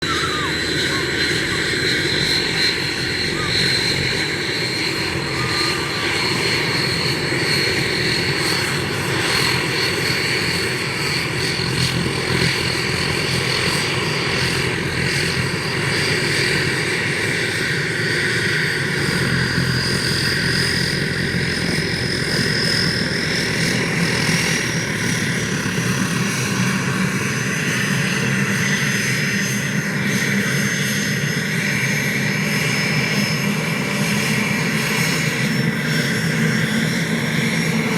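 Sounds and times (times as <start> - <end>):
helicopter turbine whine: 0.0 - 37.9.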